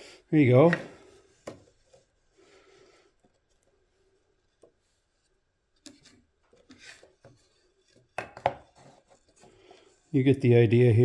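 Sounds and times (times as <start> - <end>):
soft rubbing: 0.6 - 10.6.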